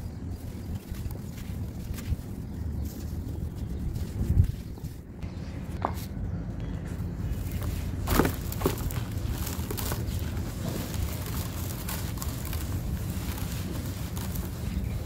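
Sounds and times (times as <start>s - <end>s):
dry sand crumbling and crackling: 0.0s - 5.4s, 7.1s - 15.0s.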